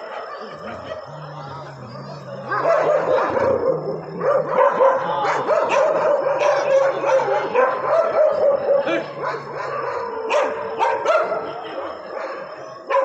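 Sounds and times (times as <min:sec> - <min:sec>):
dogs barking and yelping: 0:00.0 - 0:13.0.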